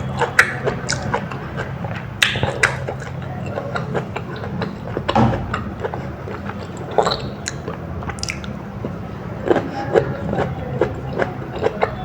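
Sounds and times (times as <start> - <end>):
chewing and wet mouth clicks: 0.0 - 12.0
smacking bite: 0.0 - 12.0
steady low hum: 0.0 - 12.0.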